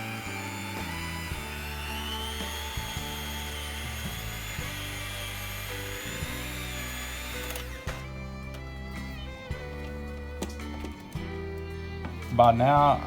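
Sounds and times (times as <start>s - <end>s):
electric mixer motor whining: 0.0s - 11.8s
background music with bass line: 0.0s - 13.0s.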